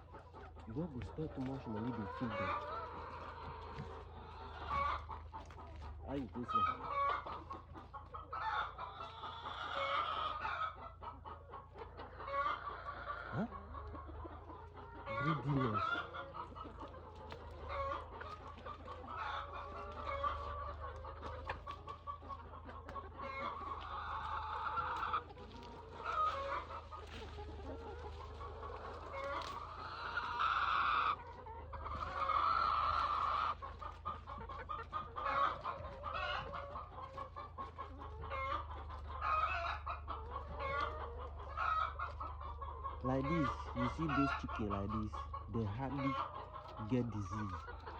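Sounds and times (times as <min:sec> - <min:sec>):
chicken drawn-out calls: 0:00.0 - 0:47.9
chickens clucking: 0:00.0 - 0:47.9.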